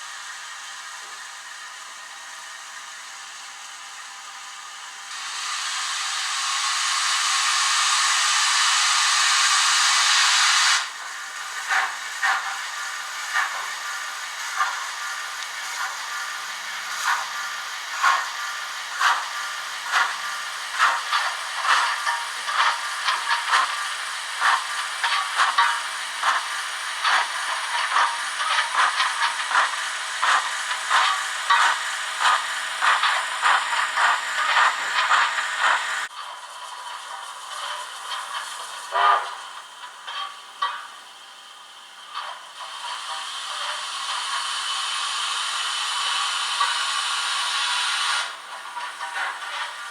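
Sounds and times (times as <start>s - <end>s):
steam locomotive exhaust chuffs: 0.0s - 49.9s
loud steam hiss: 4.6s - 49.9s.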